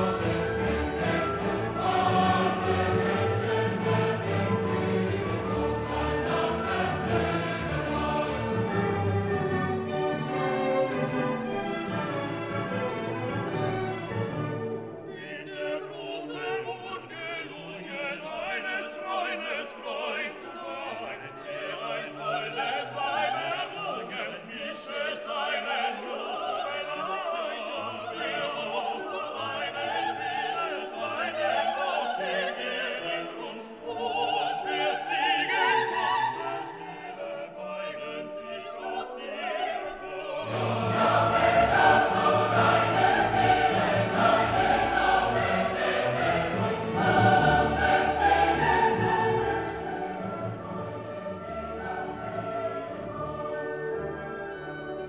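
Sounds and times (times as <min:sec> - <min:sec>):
operatic choir with orchestra: 0:00.0 - 0:55.0.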